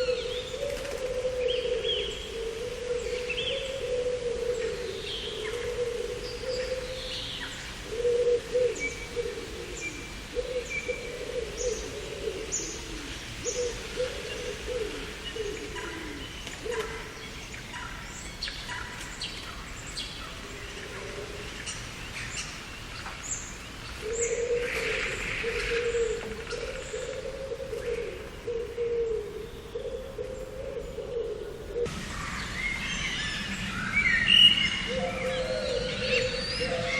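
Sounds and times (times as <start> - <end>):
low cooing bird notes: 0.0 - 18.1, 20.3 - 22.4, 23.9 - 36.9.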